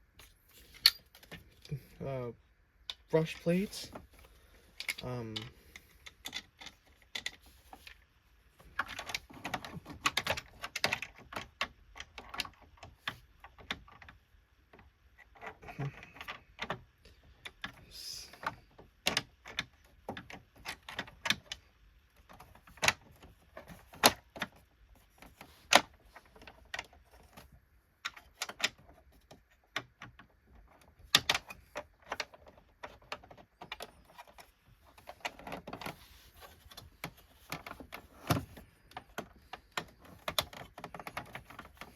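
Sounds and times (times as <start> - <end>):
plastic parts clicking and rattling: 0.0 - 41.9.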